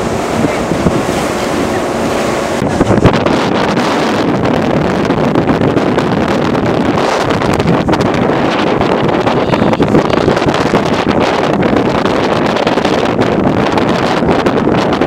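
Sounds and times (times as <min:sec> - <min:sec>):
boat running noise: 0:00.0 - 0:15.0
water rushing: 0:00.0 - 0:15.0
wind buffeting microphone: 0:00.0 - 0:15.0.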